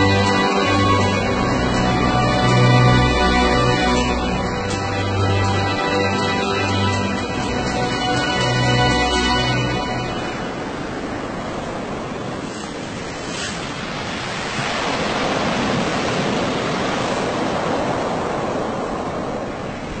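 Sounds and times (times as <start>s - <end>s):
breaking waves: 0.0s - 20.0s
wind: 0.0s - 20.0s.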